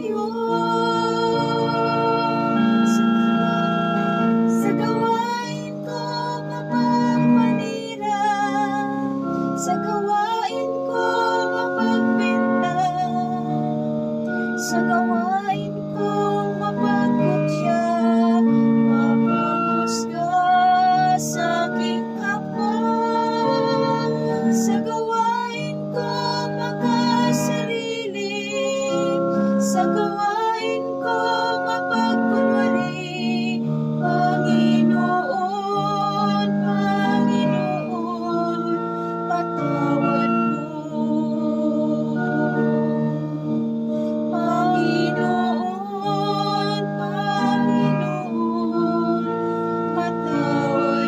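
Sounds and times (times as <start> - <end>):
sustained instrumental chords: 0.0 - 51.0
woman singing: 0.0 - 51.0.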